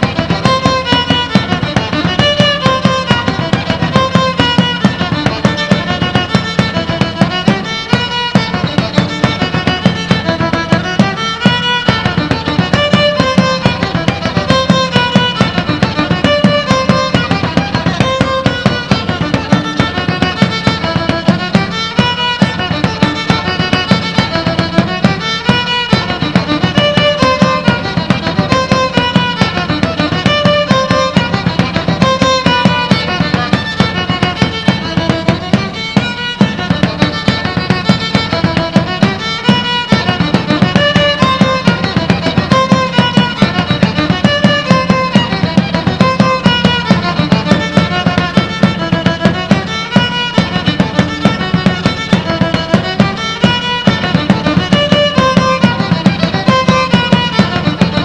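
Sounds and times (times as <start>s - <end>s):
steady beat: 0.0s - 58.0s
violin playing folk dance tune: 0.0s - 58.0s.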